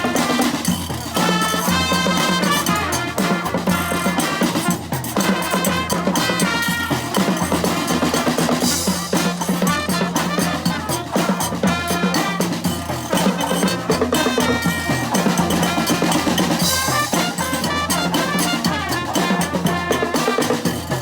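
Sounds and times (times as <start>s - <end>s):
brass band playing: 0.0s - 21.0s
snare and bass drum beat: 0.0s - 21.0s.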